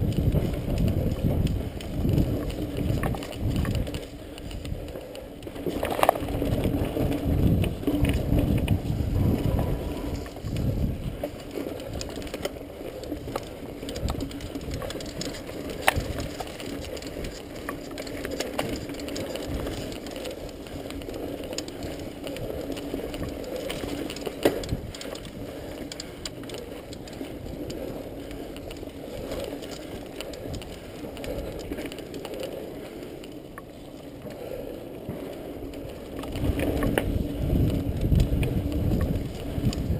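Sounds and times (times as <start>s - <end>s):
heavy rumble: 0.0s - 33.0s
bike chain and frame rattling: 0.0s - 39.9s
bike tyres on dirt: 0.0s - 39.9s.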